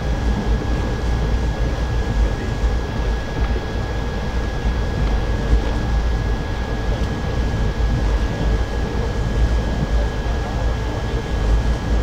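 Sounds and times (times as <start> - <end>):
faint steady whine: 0.0 - 12.0
train rumble inside carriage: 0.0 - 12.0.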